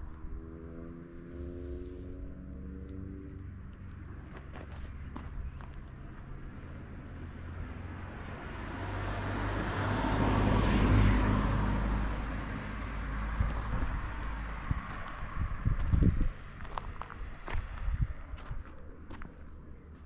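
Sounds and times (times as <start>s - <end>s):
car passing close by: 0.1s - 4.5s, 6.4s - 18.3s.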